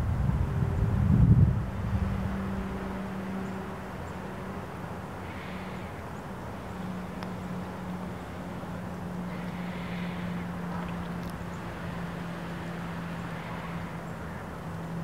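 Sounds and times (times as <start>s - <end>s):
distant engine drone: 0.0s - 15.0s
outdoor background noise: 0.0s - 15.0s.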